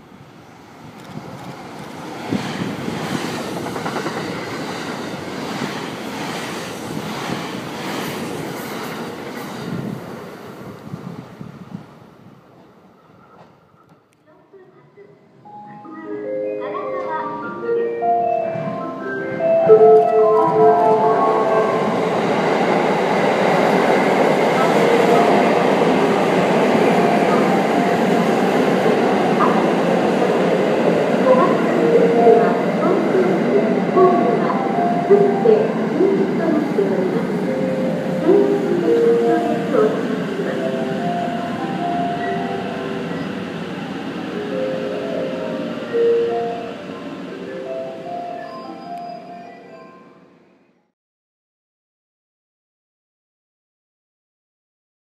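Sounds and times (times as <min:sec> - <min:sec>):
train passing at speed: 0:00.0 - 0:14.1, 0:14.8 - 0:50.2.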